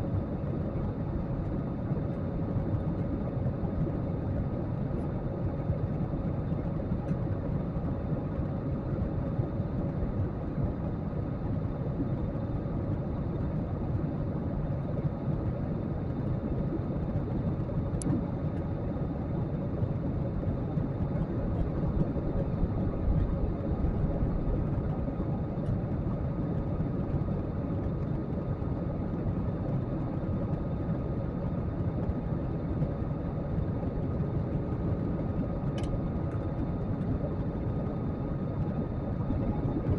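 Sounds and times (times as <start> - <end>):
faint steady hum tones: 0.0 - 39.9
jet engine and airflow drone: 0.0 - 39.9.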